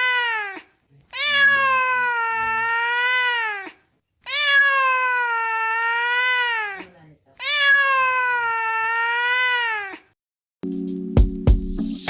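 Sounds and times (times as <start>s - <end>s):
cat meowing: 0.0s - 10.2s.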